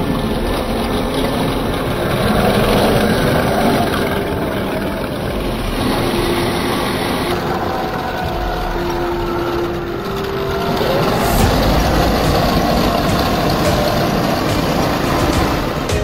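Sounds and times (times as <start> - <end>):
electric gear motors whining: 0.0 - 16.0
simulated tank engine sound: 0.0 - 16.0.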